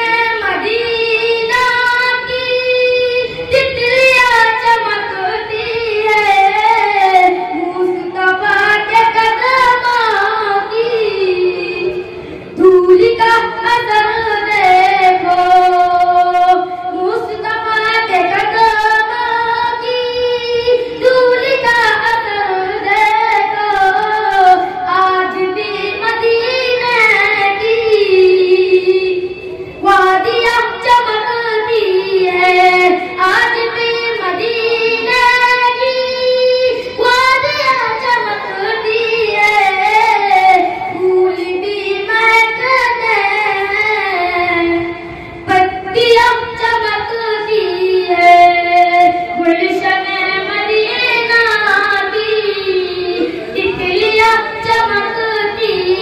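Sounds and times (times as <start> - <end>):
boy singing into microphone: 0.0 - 56.0.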